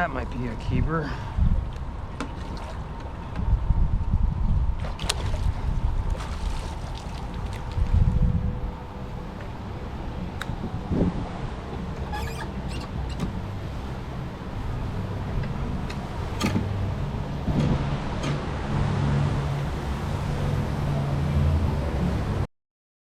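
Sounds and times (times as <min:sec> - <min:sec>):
wind rumble on microphone: 0:00.0 - 0:22.5.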